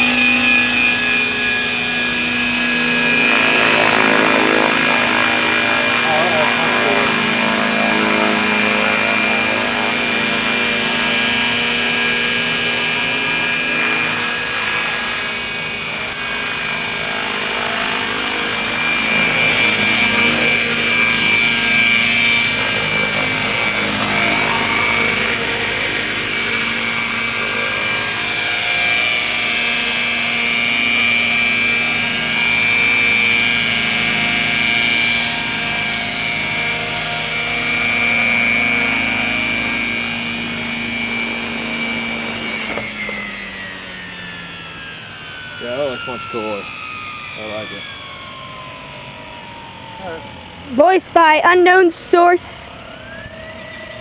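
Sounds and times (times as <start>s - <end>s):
helicopter drivetrain whine: 0.0s - 54.0s
rotor blades humming: 0.0s - 54.0s.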